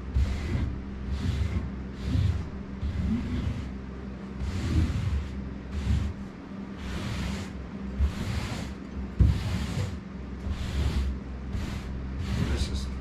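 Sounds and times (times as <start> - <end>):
carpet swishing strokes: 0.0 - 13.0
steady low hum: 0.0 - 13.0.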